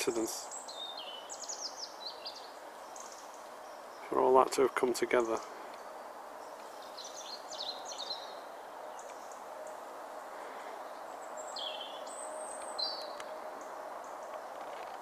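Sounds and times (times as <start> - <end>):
birds chirping and twittering: 0.0 - 15.0
steady background hiss: 0.0 - 15.0.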